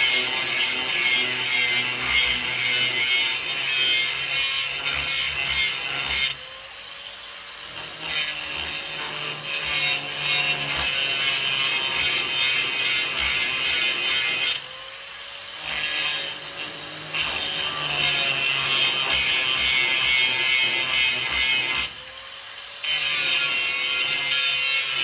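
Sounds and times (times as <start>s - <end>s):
power grinder grinding steel: 0.0s - 25.0s.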